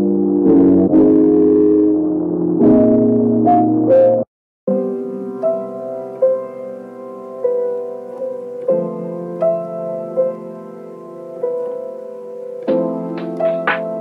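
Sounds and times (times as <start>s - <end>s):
held keyboard chords: 0.0s - 14.0s
slow keyboard melody: 0.0s - 14.0s.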